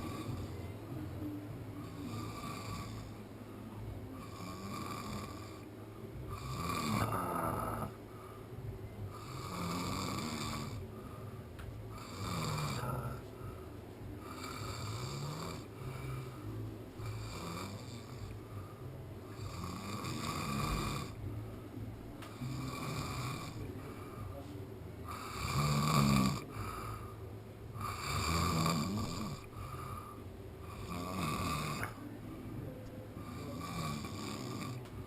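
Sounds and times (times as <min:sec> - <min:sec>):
person snoring: 0:00.0 - 0:01.0, 0:01.8 - 0:21.5, 0:22.2 - 0:24.4, 0:25.0 - 0:35.0.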